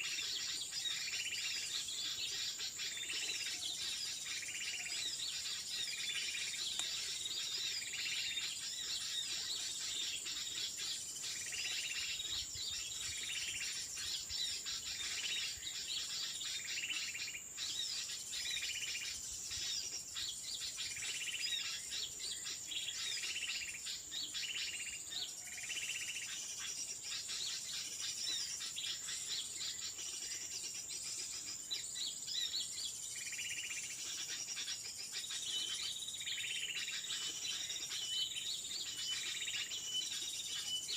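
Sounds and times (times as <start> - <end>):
bird calling: 0.0 - 40.9.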